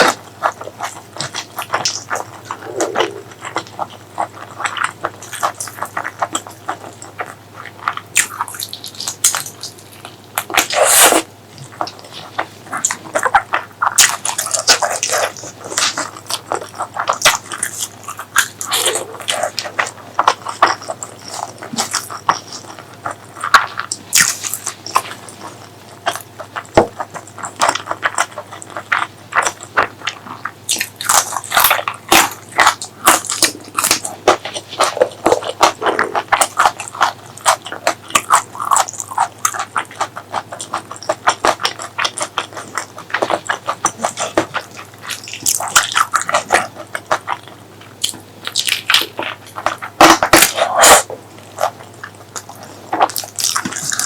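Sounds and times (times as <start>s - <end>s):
chewing with mouth smacks: 0.0s - 54.0s.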